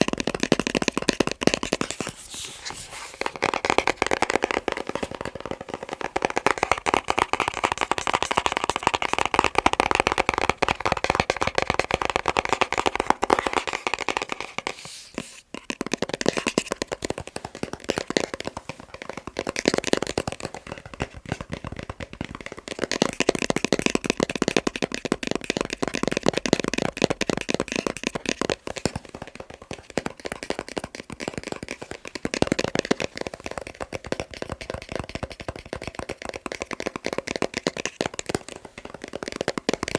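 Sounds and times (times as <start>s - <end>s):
fast tapping on boxes: 0.0s - 2.1s, 3.2s - 14.9s, 15.5s - 39.9s.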